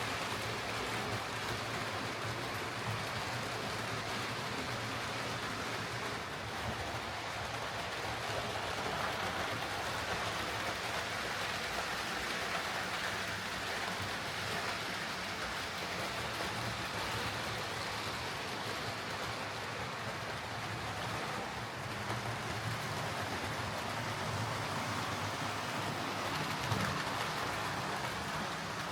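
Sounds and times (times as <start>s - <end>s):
wheels rolling on rails: 0.0s - 28.9s.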